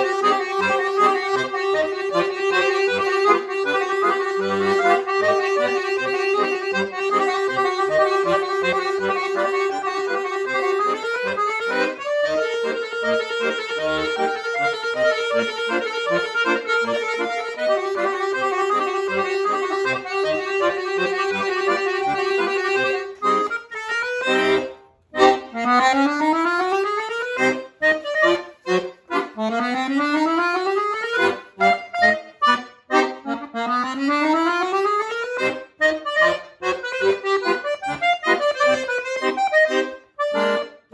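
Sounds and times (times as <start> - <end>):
button accordion playing: 0.0 - 40.9.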